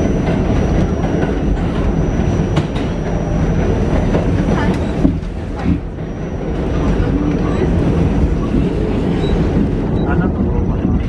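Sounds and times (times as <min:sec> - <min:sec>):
subway train wheels rumbling on rails: 0:00.0 - 0:11.0.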